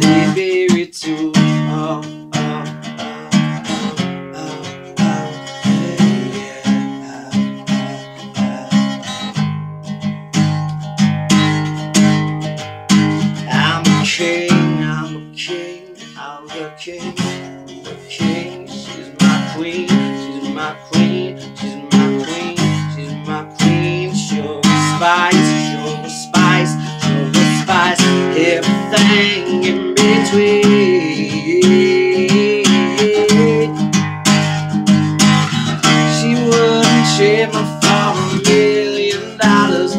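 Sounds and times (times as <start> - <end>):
man singing: 0.0 - 9.2, 13.2 - 34.0, 35.5 - 39.9
acoustic guitar strumming: 0.0 - 39.9.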